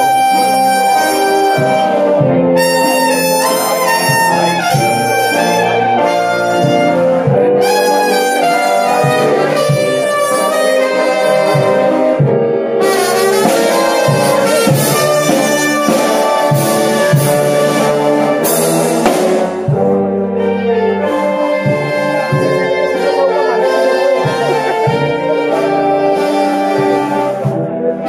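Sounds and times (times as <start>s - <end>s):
brass band playing: 0.0s - 28.0s
steady low drum beat: 1.5s - 20.4s, 21.4s - 27.8s.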